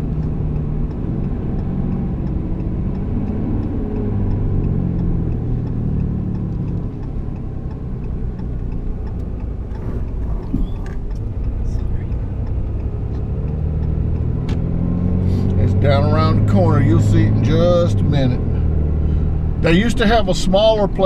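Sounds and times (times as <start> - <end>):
truck engine and road rumble: 0.0 - 21.0
turn signal ticking: 0.0 - 21.0.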